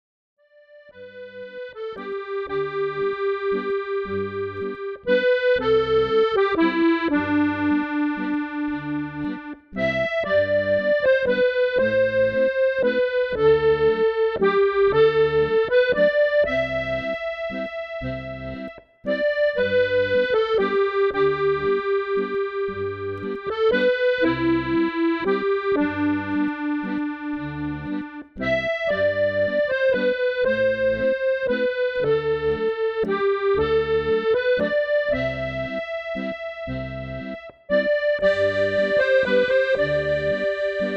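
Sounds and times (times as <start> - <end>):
accordion playing slow air: 0.5 - 40.9.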